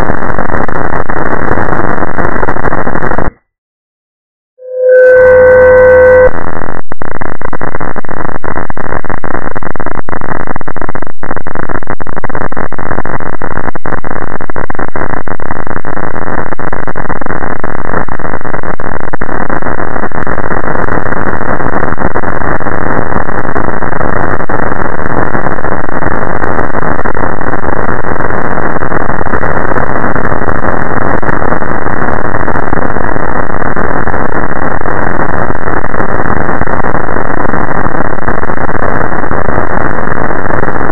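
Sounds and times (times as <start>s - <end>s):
harsh distorted noise: 0.0s - 3.4s, 4.6s - 40.9s.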